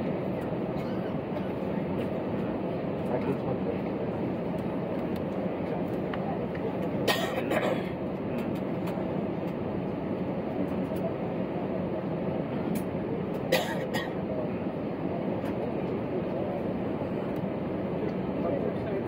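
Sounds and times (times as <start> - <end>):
aircraft cabin drone: 0.0 - 19.0.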